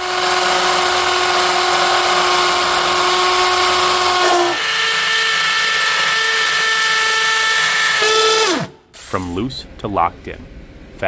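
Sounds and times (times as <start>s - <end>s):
power drill whining: 0.0s - 9.3s.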